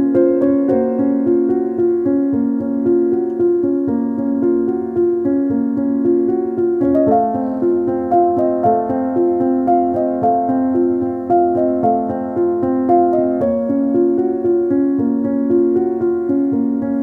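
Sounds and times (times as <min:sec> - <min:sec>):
gentle electric piano chords: 0:00.0 - 0:17.0.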